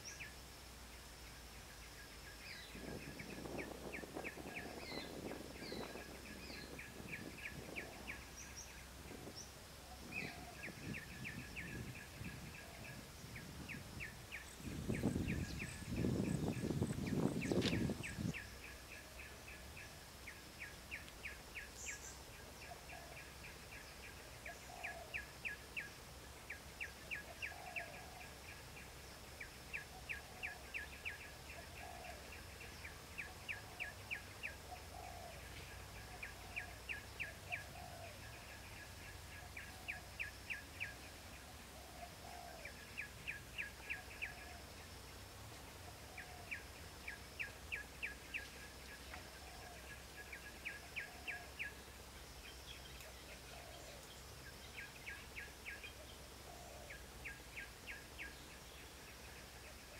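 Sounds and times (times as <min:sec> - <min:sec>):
insect hiss: 0:00.0 - 0:59.9.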